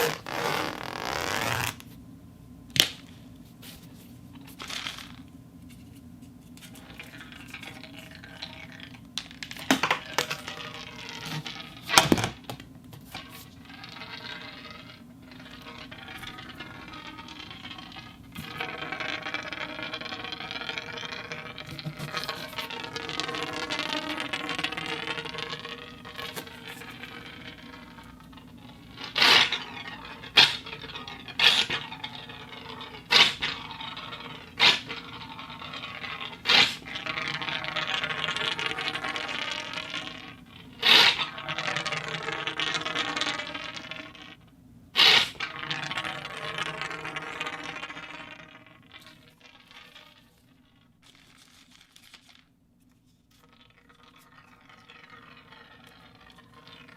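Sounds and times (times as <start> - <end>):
steel ball rolling in metal conduit: 6.6 - 44.4, 45.0 - 52.5, 53.2 - 56.9.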